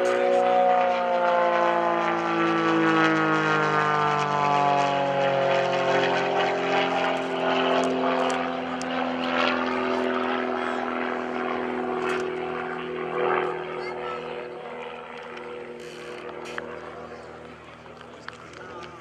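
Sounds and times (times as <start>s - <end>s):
plane piston engine and propeller: 0.0s - 19.0s.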